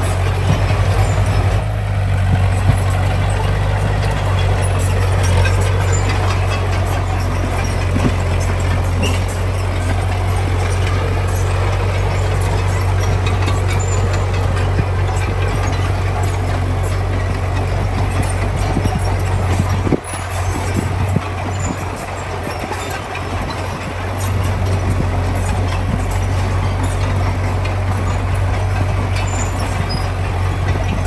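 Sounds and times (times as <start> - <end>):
diesel engine droning: 0.0 - 31.0
metallic clatter and rattling: 0.0 - 31.0.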